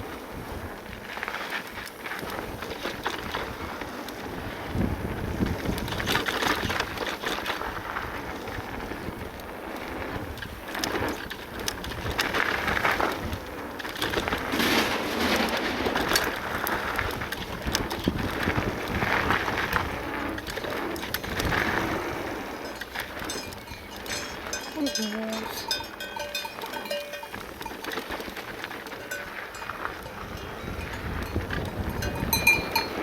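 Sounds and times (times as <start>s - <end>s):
bike tyres crunching on gravel: 0.0s - 24.8s, 25.6s - 33.0s
wind on microphone: 3.2s - 9.4s, 11.8s - 28.5s, 29.1s - 33.0s.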